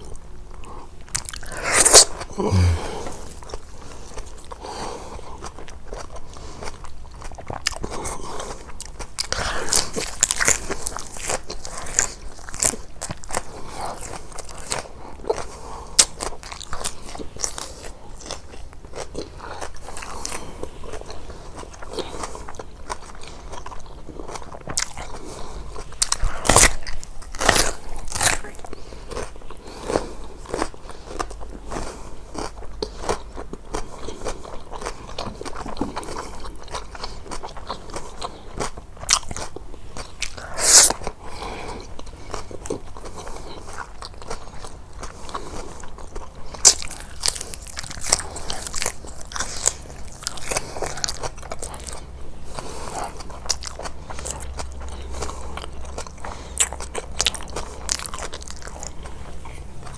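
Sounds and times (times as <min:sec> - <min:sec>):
biting and chewing: 0:00.0 - 0:59.9
loud food crunch: 0:00.0 - 0:59.9.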